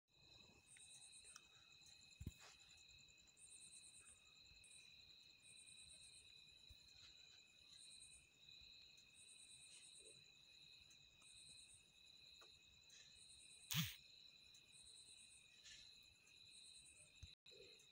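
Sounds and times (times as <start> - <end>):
insects trilling: 0.2 - 17.9
pulsing insect chirp: 0.2 - 17.9.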